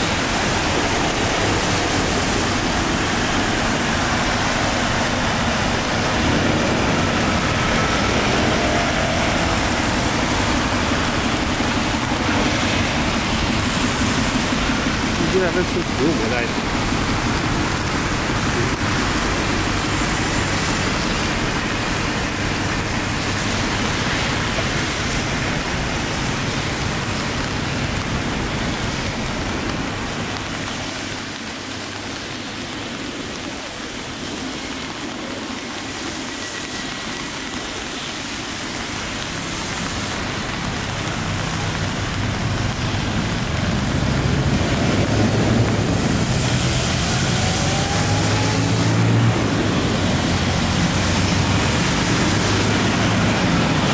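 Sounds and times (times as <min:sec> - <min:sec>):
rain falling on paving: 0:00.0 - 0:53.9
tyres hissing on wet road: 0:00.0 - 0:53.9.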